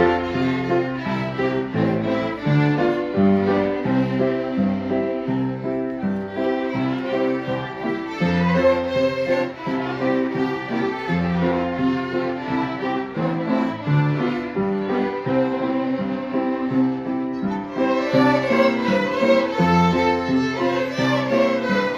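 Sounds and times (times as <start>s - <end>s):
fiddles playing a tune: 0.0s - 21.9s.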